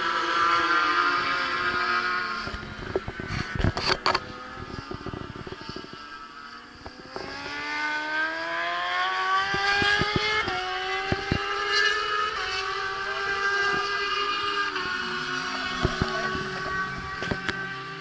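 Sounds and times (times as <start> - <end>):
racing motorcycle engines accelerating: 0.0 - 18.0.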